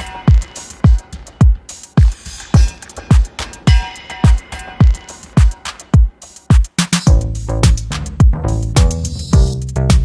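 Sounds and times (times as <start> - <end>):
electronic beat music: 0.0 - 10.0.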